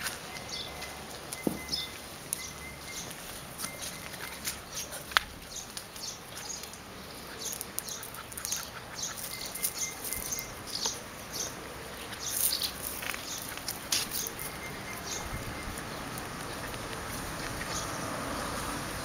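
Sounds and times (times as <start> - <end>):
paws scrabbling in dry dirt: 0.0 - 19.0.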